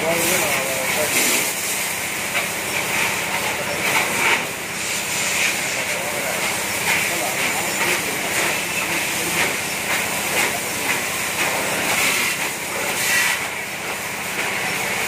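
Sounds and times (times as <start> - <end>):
water jets spraying: 0.0 - 15.0.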